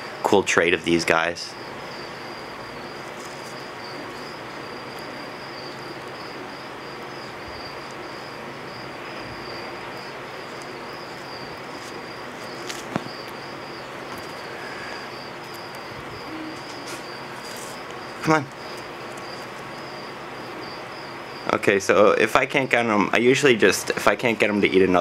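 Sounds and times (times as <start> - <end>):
crickets chirping: 0.0 - 25.0
steady hiss: 0.0 - 25.0.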